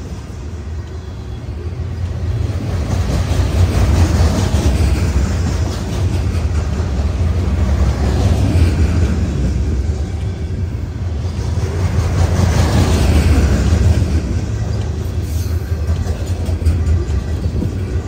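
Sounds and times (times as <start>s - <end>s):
steel wheels rumbling on rails: 0.0s - 18.0s.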